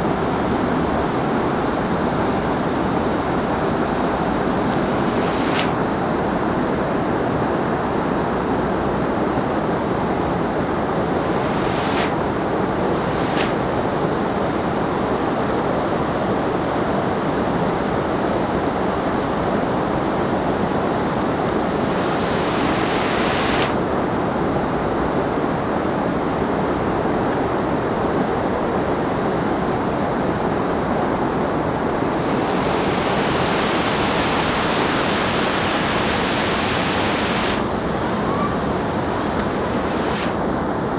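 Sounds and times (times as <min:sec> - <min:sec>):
waterfall rushing: 0:00.0 - 0:16.8, 0:17.5 - 0:24.0, 0:30.4 - 0:40.9.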